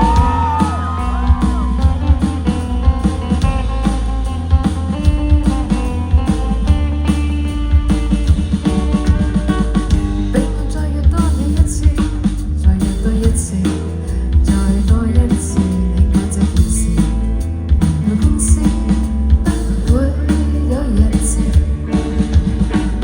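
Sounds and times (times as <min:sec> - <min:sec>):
drum kit steady beat: 0:00.0 - 0:23.0
guitars and bass: 0:00.0 - 0:23.0.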